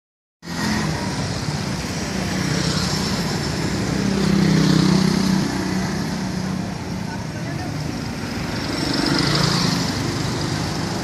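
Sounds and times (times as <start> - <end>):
steady road hum: 0.4 - 11.0.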